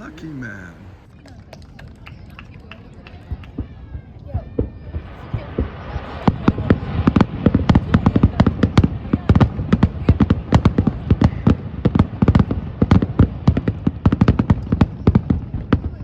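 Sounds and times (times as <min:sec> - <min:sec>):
fireworks bangs and pops: 0:01.3 - 0:16.0.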